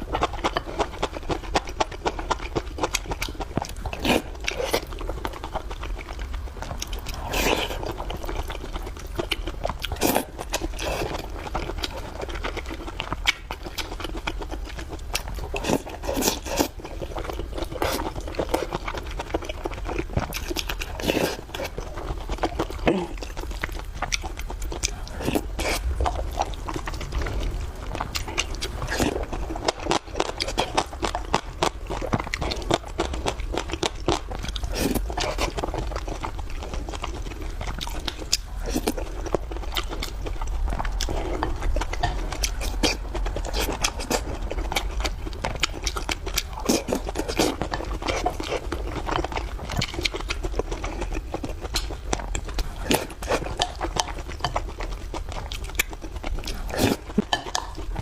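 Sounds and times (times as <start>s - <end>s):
chewing and biting: 0.0s - 58.0s.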